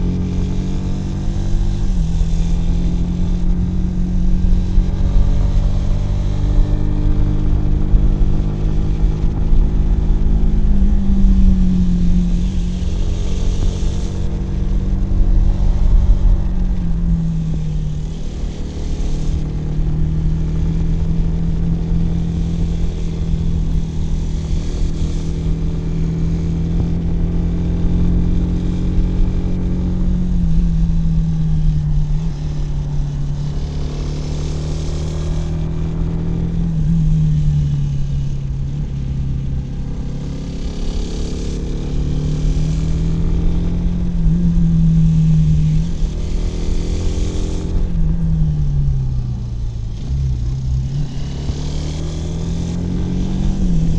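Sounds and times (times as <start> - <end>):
motorcycle engine running: 0.0 - 53.9
rushing wind noise: 0.0 - 53.9.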